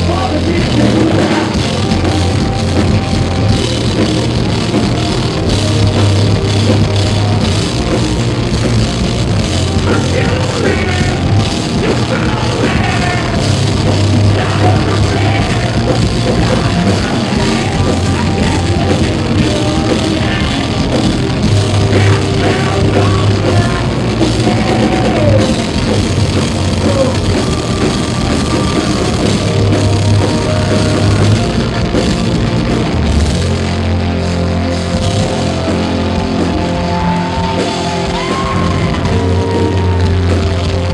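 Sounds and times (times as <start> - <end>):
bass guitar: 0.0 - 40.9
distorted electric guitars: 0.0 - 40.9
drum kit: 0.0 - 40.9.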